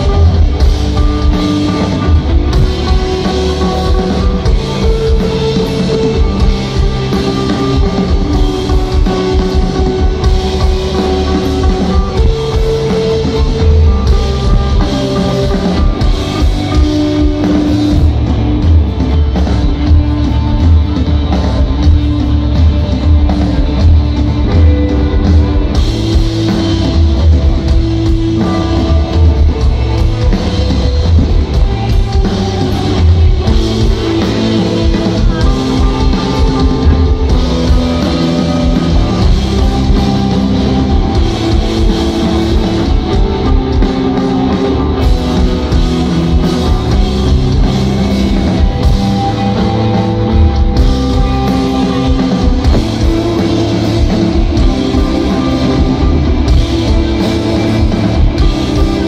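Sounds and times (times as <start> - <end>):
electric guitars: 0.0 - 59.0
live rock band playing: 0.0 - 59.0.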